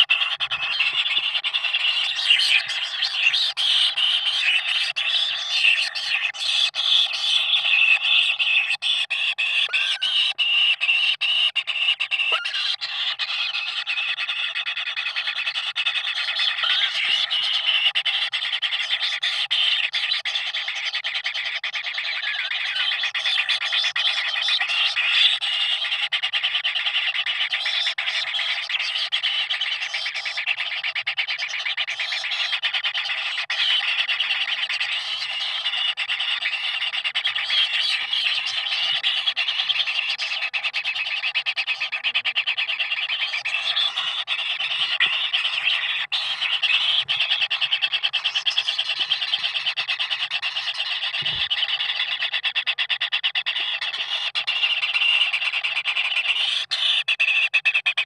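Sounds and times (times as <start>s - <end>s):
bird chicks chattering: 0.0s - 58.0s
high-pitched chorus of calls: 0.0s - 58.0s.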